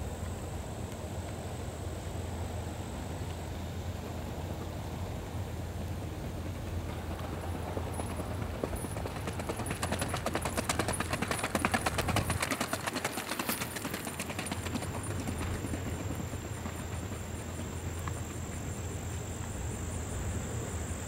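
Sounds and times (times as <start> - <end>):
hoofbeats on gravel track: 3.3 - 20.3.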